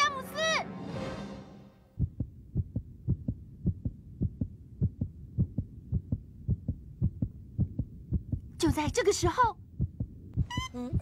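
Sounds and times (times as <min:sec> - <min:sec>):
heartbeat thumps: 0:02.0 - 0:11.0.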